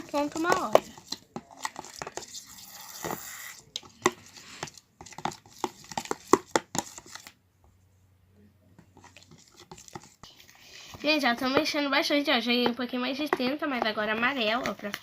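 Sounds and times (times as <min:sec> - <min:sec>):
spoon stirring sticky slime: 0:00.0 - 0:07.4, 0:08.8 - 0:15.0.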